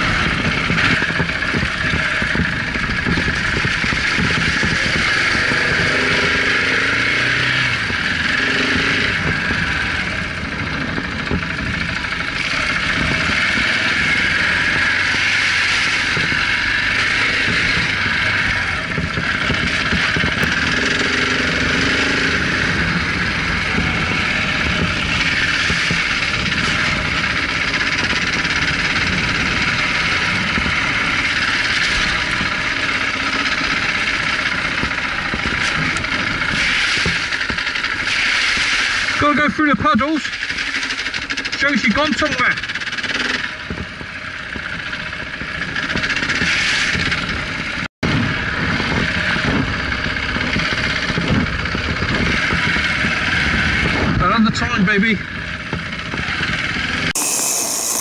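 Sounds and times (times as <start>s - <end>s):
wind noise on microphone: 0.0s - 39.2s, 43.4s - 58.0s
motorcycle engine running: 0.0s - 58.0s.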